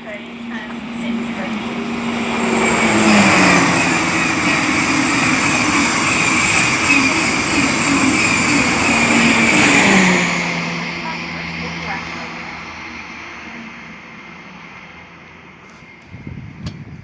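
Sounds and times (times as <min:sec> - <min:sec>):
electric train rushing: 0:00.0 - 0:17.0
train whine: 0:00.0 - 0:17.0.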